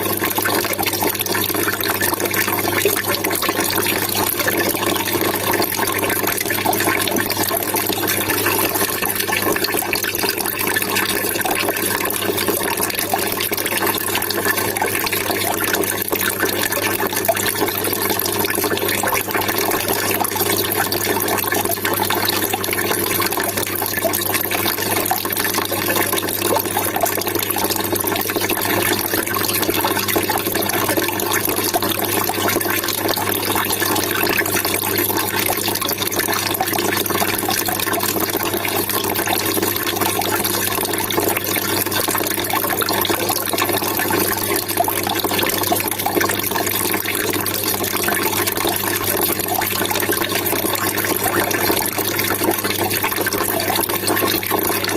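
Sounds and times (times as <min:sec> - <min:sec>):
water trickling and splashing: 0:00.0 - 0:54.9.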